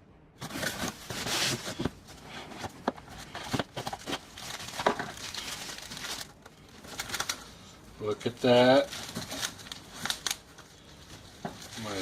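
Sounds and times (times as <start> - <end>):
packaging rustling: 0.4 - 12.0.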